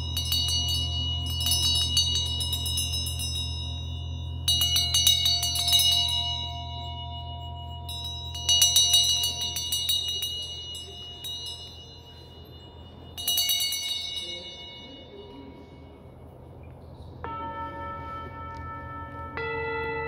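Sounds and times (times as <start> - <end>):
hand bells ringing: 0.0 - 20.0
steady low hum: 0.0 - 20.0.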